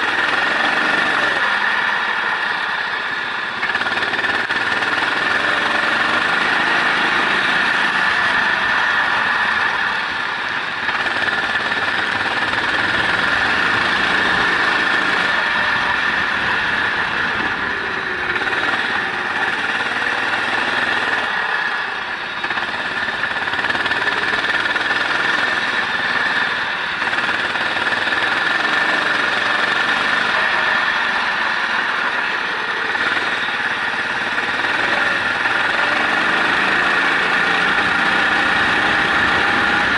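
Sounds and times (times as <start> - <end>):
race vehicle engine: 0.0 - 39.9.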